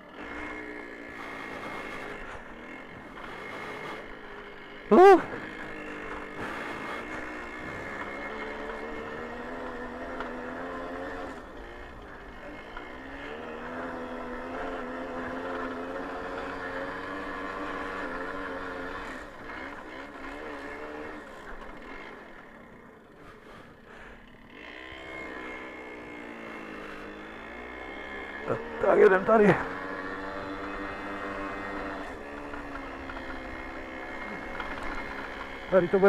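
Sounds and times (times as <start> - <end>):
two-stroke moped engine running: 0.0 - 36.0.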